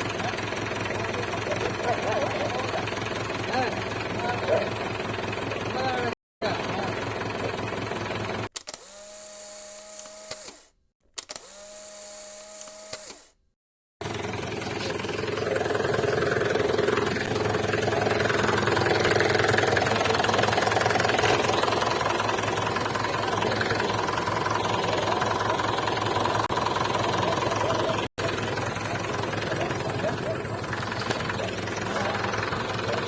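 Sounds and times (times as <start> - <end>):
heavy vehicle engine running: 0.0 - 8.5, 14.0 - 33.0.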